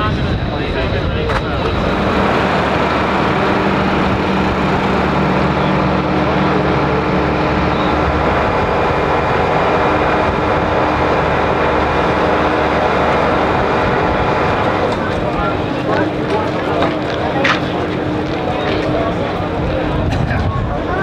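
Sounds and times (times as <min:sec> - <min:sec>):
engine drone with hums: 0:00.0 - 0:21.0.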